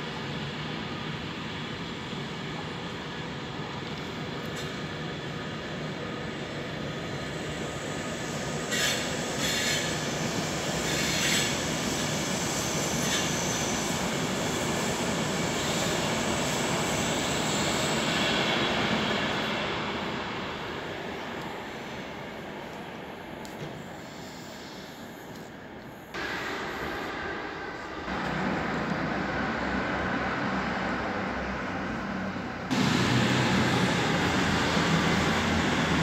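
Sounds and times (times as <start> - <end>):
train wheels rushing on rail: 0.0 - 36.0.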